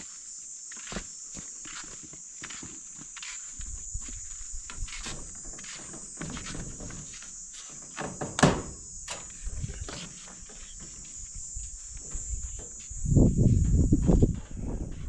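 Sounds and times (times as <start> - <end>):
high insect trilling: 0.0 - 14.4
footsteps: 0.7 - 8.3, 9.2 - 15.0.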